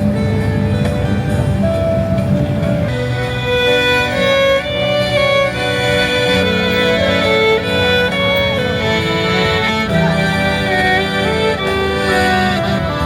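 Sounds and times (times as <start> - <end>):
lower accompaniment: 0.0 - 13.0
violin melody: 0.0 - 13.0.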